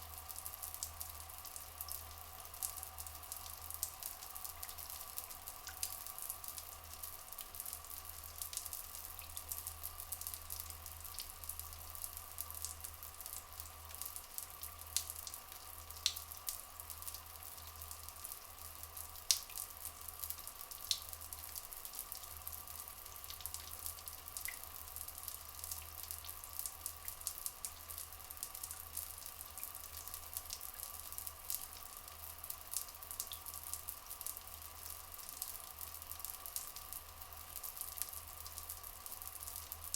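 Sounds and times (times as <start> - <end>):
trickling water: 0.0 - 39.9
water drips: 0.0 - 39.9.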